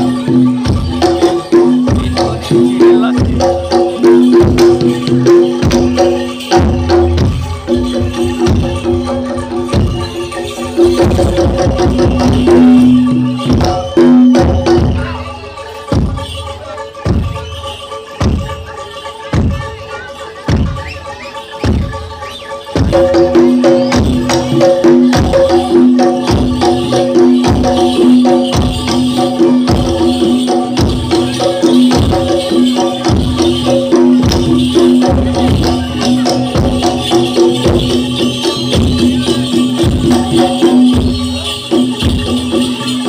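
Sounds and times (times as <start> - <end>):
steady drum beat: 0.0 - 21.0, 21.6 - 43.0
constant jingling: 0.0 - 43.0
gamelan music: 0.0 - 43.0.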